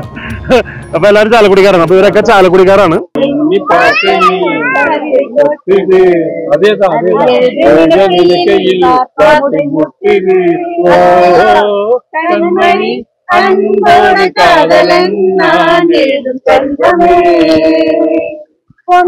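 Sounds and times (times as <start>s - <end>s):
voices singing: 2.8s - 19.0s.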